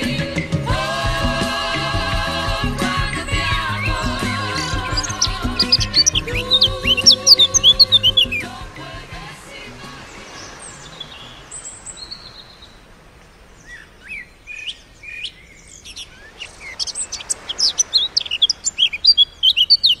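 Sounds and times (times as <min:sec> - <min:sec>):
birds chirping and singing: 0:00.0 - 0:20.0.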